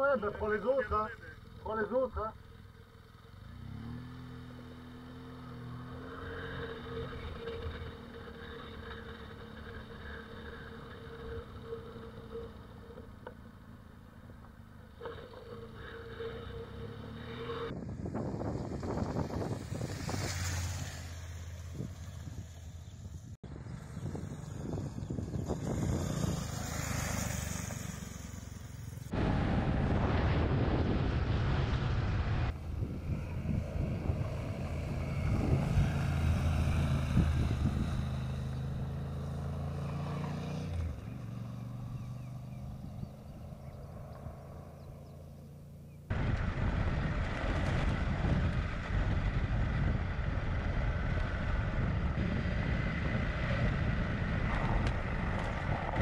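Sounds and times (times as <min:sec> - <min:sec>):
motorcycle engine: 0:00.0 - 0:56.0
road noise: 0:00.0 - 0:56.0.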